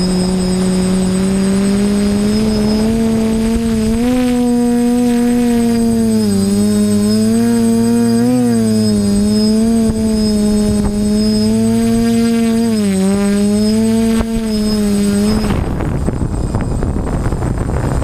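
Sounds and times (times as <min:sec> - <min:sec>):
quadcopter motors humming: 0:00.0 - 0:18.0.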